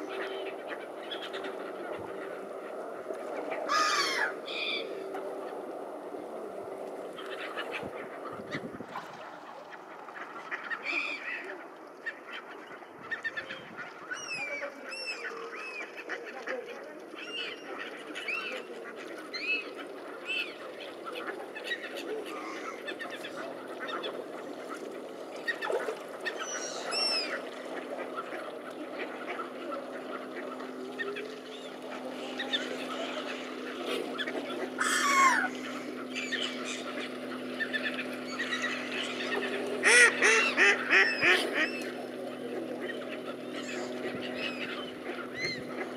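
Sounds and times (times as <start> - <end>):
gulls and ducks calling: 0.0 - 45.9.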